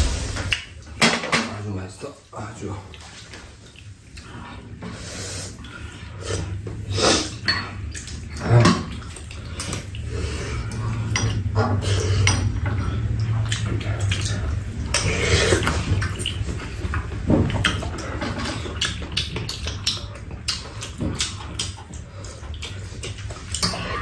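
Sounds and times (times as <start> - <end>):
steady low hum: 1.6 - 24.0
slurping and eating: 2.9 - 24.0.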